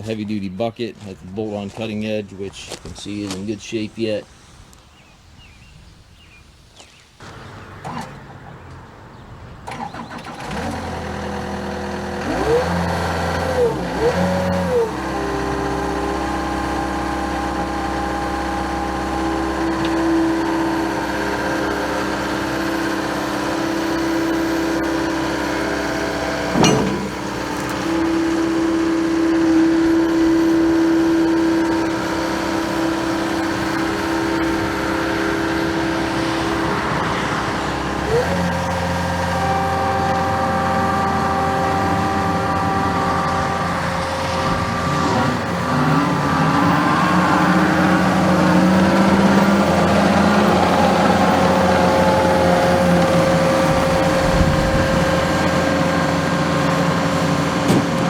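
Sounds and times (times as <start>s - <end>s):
diesel engine running: 9.6s - 58.0s
shifting whines: 9.6s - 58.0s.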